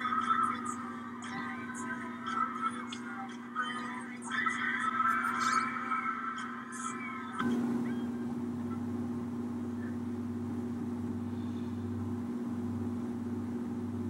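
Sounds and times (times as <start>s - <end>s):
faint room noise hiss: 0.0s - 14.0s
steady low hum: 0.0s - 14.0s.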